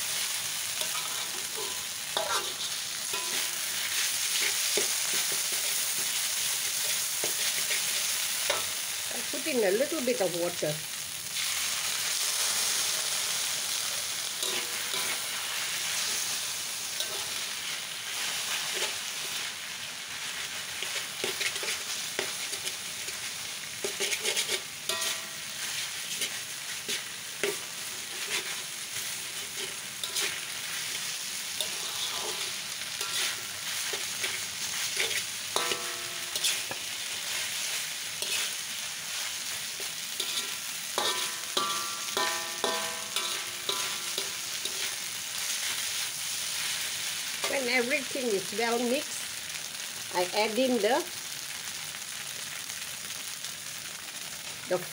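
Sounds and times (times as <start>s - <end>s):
noodles sizzling in a wok: 0.0s - 54.9s
metal spatula scraping wok: 0.1s - 9.0s, 12.5s - 48.1s.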